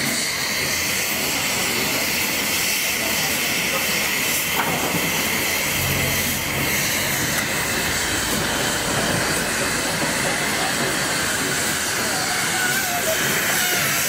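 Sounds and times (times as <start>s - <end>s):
steam venting hiss: 0.0s - 14.0s.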